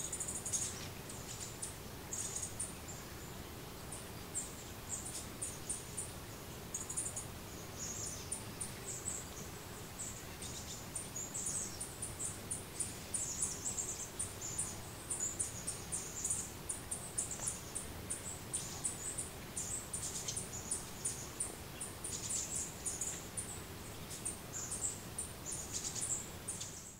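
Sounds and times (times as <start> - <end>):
faint steady background noise: 0.0 - 26.9
small birds chirping: 0.0 - 26.9.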